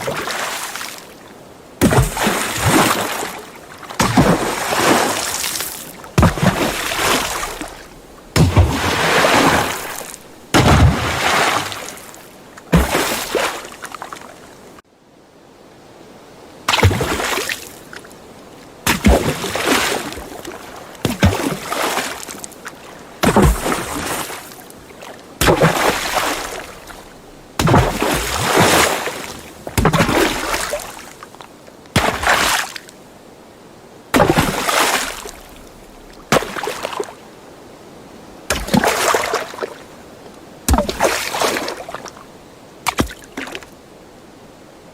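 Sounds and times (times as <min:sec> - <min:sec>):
water splashes: 0:00.0 - 0:14.8, 0:16.6 - 0:33.1, 0:34.1 - 0:37.3, 0:38.4 - 0:43.8.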